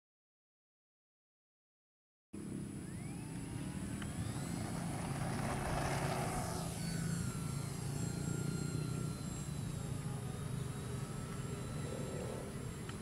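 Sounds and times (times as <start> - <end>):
model plane motor whining: 2.4 - 13.0.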